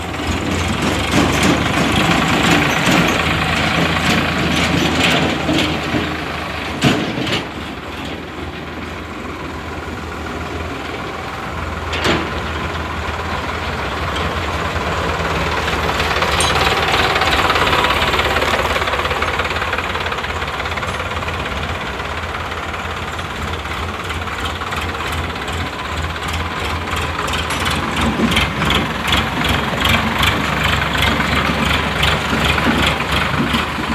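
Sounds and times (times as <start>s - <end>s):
heavy diesel engines running: 0.0s - 33.9s.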